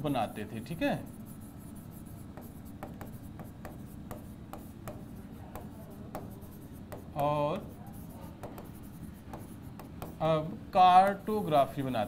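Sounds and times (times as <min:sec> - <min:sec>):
marker scratching on whiteboard: 0:00.0 - 0:10.5.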